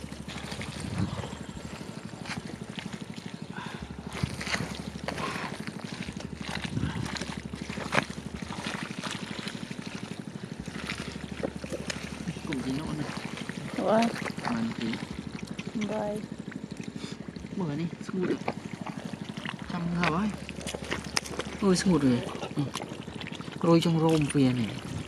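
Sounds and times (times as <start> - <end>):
small engine running: 0.0 - 25.0
water and mud splashing: 0.0 - 25.0.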